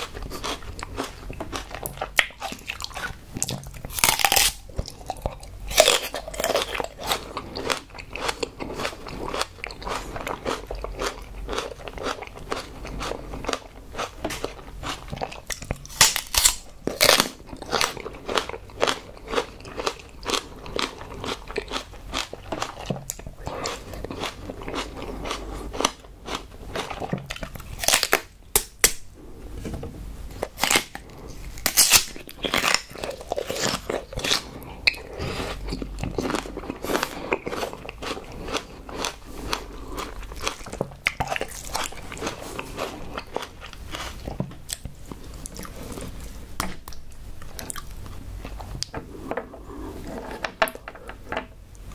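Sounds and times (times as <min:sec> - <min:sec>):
chewing with wet crunching: 0:00.0 - 0:28.1, 0:31.1 - 0:46.1.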